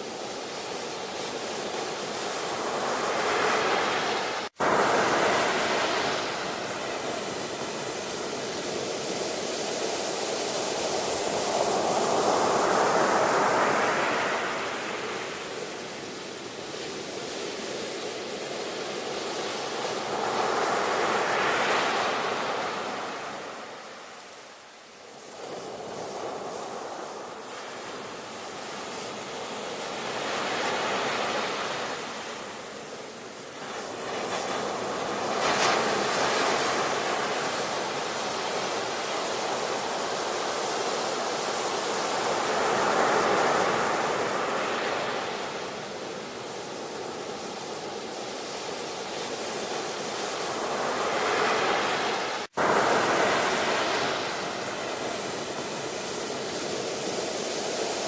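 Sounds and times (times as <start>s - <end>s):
waves breaking ashore: 0.0s - 58.0s.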